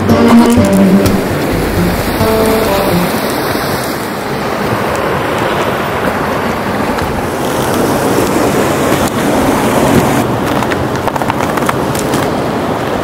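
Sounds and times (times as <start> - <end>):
rushing mountain stream: 0.0 - 13.0.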